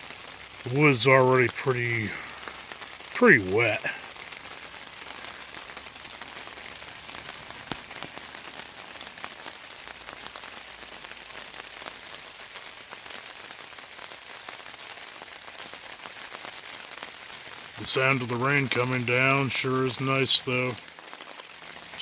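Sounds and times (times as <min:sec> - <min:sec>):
rain falling on a tarp: 0:00.0 - 0:22.0.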